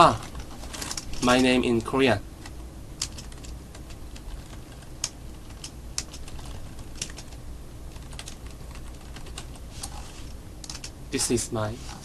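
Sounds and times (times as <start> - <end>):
keyboard typing: 0.0 - 10.0, 10.6 - 11.0.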